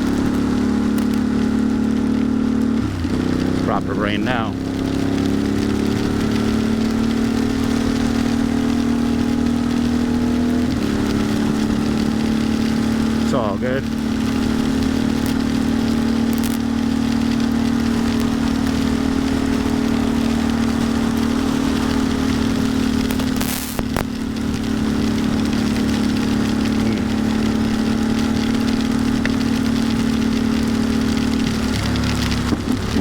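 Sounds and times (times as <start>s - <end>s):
motorcycle engine running: 0.0s - 33.0s
rain crackling on microphone: 0.0s - 33.0s.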